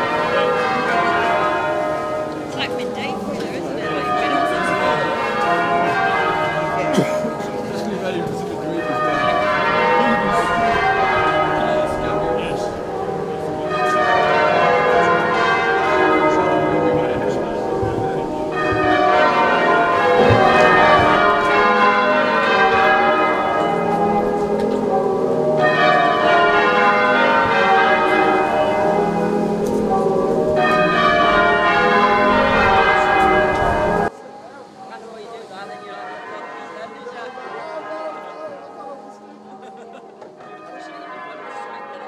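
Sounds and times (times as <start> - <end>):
church bells pealing: 0.0 - 42.0.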